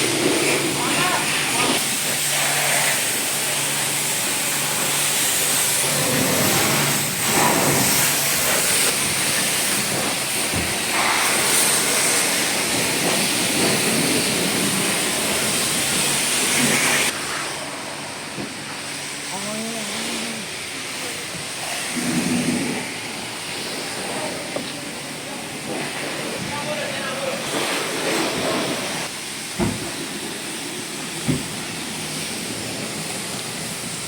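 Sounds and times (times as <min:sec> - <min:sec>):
pressure washer spraying water: 0:00.0 - 0:34.0.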